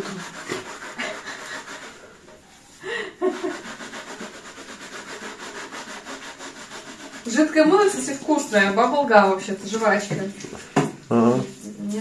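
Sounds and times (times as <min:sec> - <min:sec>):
sponge scrubbing plastic tank: 0:00.0 - 0:02.1, 0:03.2 - 0:12.0.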